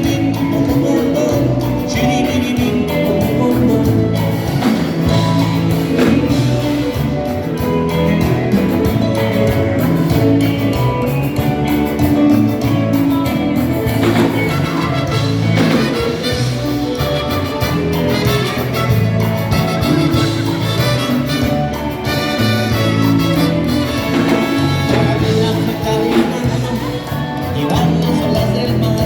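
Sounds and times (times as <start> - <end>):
live band playing dance music: 0.0 - 29.0.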